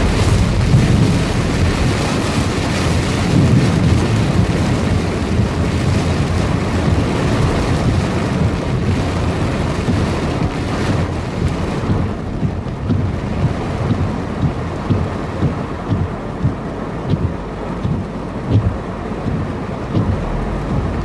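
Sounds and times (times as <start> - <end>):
deep thunder rumble: 0.0 - 21.0
heavy rain hiss: 0.0 - 21.0.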